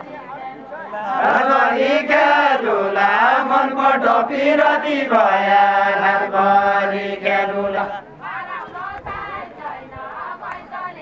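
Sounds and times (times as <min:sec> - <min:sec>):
men singing unaccompanied: 0:00.8 - 0:11.0.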